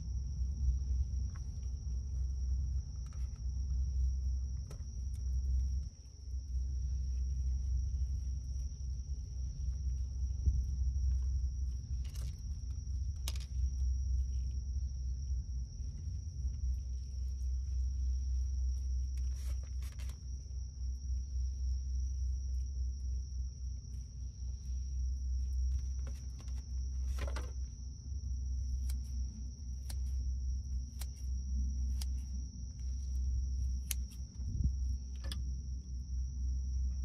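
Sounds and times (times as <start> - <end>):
crickets trilling: 0.0 - 37.0
low rumble: 0.0 - 37.0.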